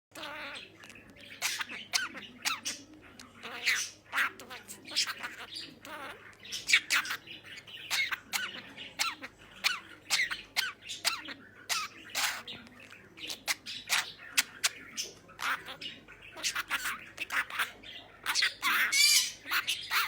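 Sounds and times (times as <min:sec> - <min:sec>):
budgerigar chattering: 0:00.1 - 0:20.0.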